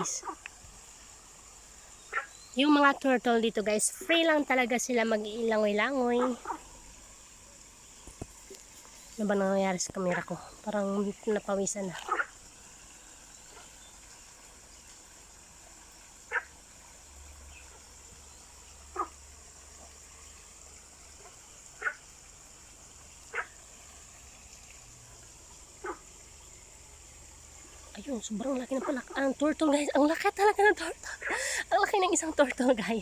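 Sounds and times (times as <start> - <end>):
stream hiss: 0.0 - 33.0.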